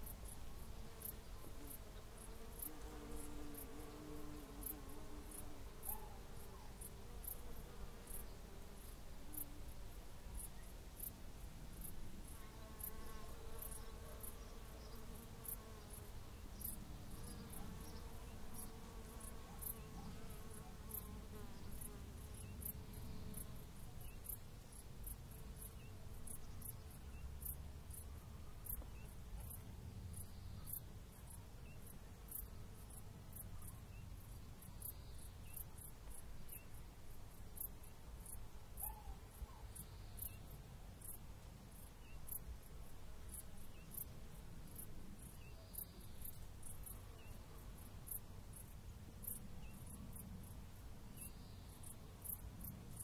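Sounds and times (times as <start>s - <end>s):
insect chirping: 10.3s - 53.0s.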